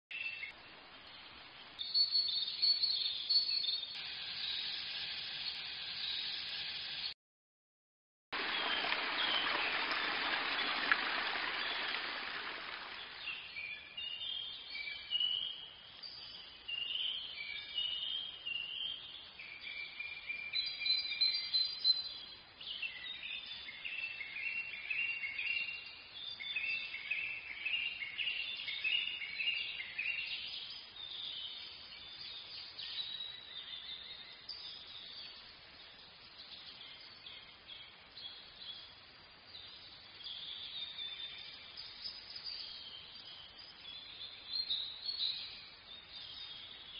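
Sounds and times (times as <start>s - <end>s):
small birds chirping: 0.1s - 7.2s, 8.4s - 46.9s.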